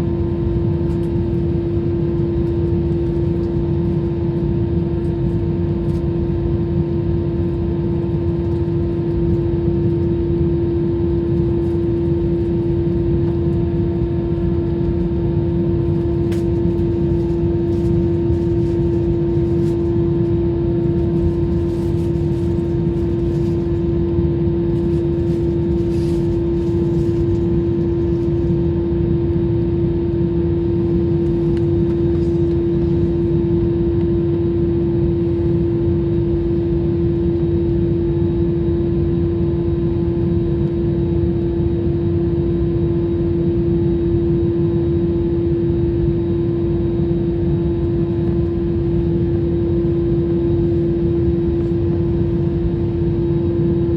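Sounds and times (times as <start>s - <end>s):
airliner cabin rumble and hum: 0.0s - 53.9s.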